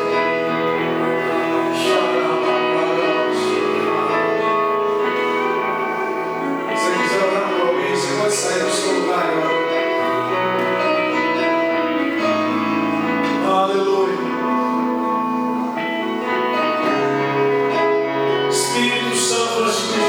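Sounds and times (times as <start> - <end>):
instrumental worship music: 0.0 - 20.0.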